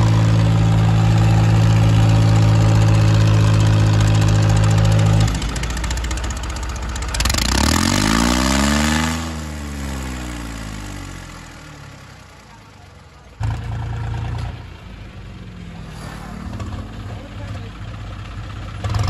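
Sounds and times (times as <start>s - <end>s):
loud steady engine sound: 0.0s - 19.0s
tractor engines revving: 0.0s - 19.0s.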